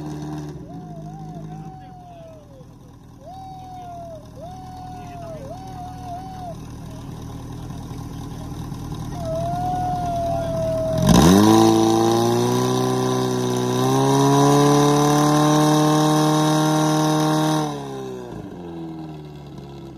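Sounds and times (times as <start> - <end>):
pump engine revving: 0.0 - 19.6.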